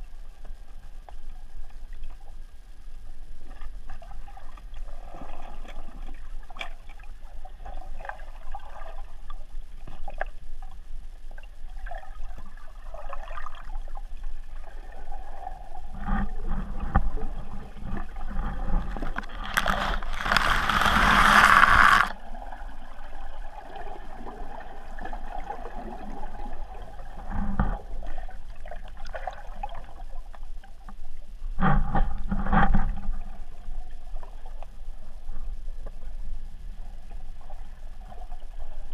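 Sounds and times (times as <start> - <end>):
water moving underwater: 0.0 - 38.9.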